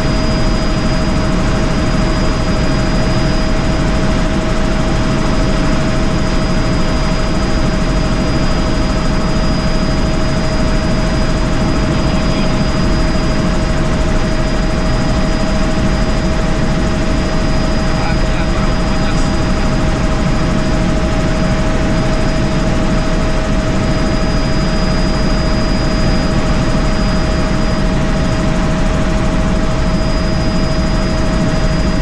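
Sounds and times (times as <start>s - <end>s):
helicopter rotor and engine noise: 0.0s - 32.0s
high whine: 0.0s - 32.0s.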